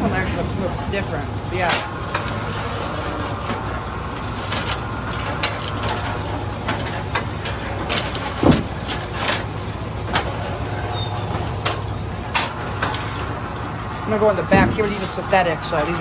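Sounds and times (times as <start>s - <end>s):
low motor hum: 0.0s - 16.0s
machinery clanks and clicks: 0.0s - 16.0s.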